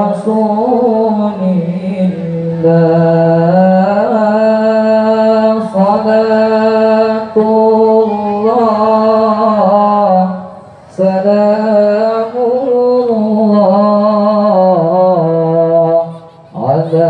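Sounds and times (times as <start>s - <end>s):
man reciting melodically into microphone: 0.0s - 17.0s.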